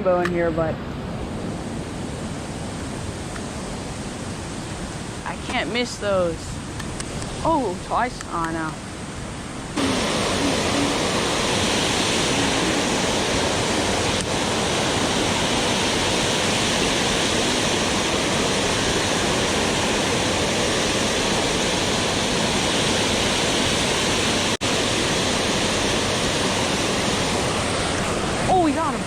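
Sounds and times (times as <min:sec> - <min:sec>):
waterfall roaring: 0:00.1 - 0:29.0.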